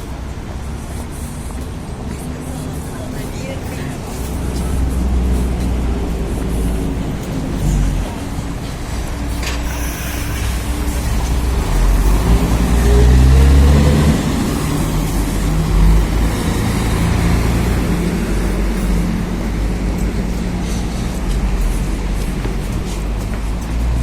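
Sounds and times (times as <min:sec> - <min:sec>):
road noise: 0:00.0 - 0:24.0
vehicle engine accelerating: 0:00.0 - 0:24.0.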